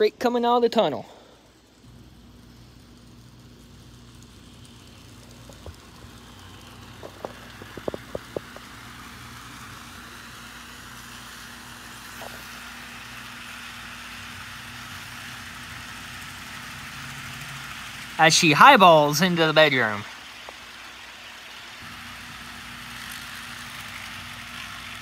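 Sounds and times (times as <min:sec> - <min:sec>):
model train motor hum: 0:00.0 - 0:25.0
sharp clicks of train wheels: 0:01.4 - 0:25.0.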